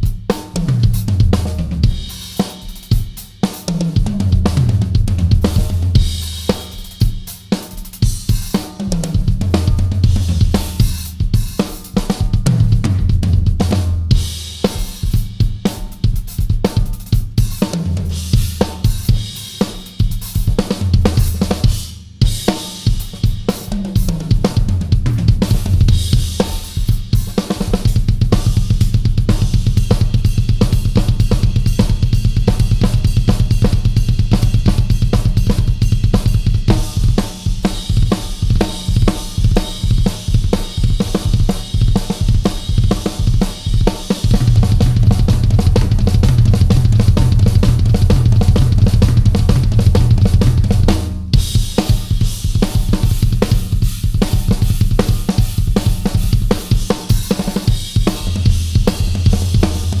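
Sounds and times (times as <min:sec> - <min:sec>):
drum kit playing: 0:00.0 - 1:00.0
fast bass drum strokes: 0:00.0 - 1:00.0.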